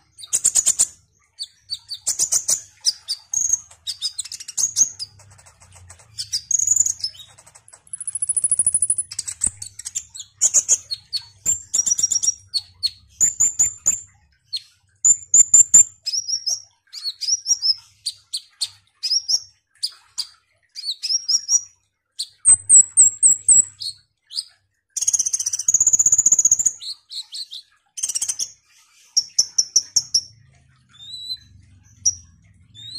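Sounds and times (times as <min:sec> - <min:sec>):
sunbird song: 0:00.0 - 0:19.5, 0:20.1 - 0:32.9.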